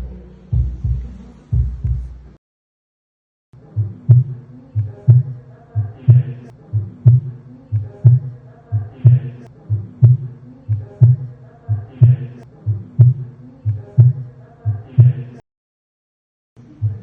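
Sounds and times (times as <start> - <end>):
heartbeat lub-dub: 0.0 - 2.4, 3.6 - 15.4, 16.7 - 17.0.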